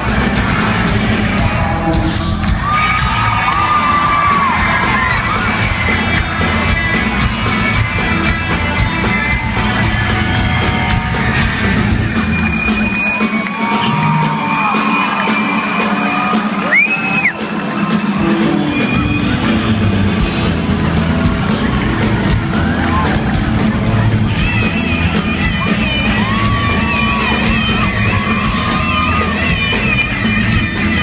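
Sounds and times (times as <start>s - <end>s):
crowd whooping and shouting: 0.0s - 31.0s
live rock band playing: 0.0s - 31.0s.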